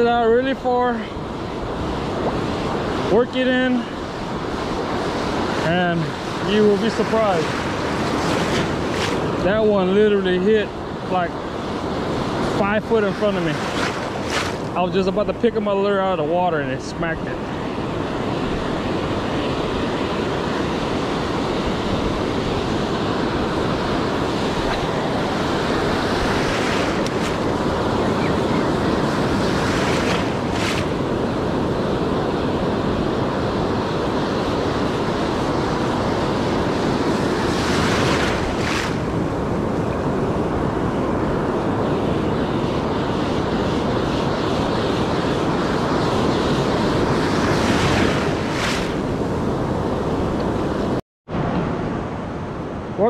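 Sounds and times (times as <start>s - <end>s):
wind buffeting microphone: 0.0s - 15.6s, 16.2s - 52.8s
ocean surf washing: 0.0s - 53.0s.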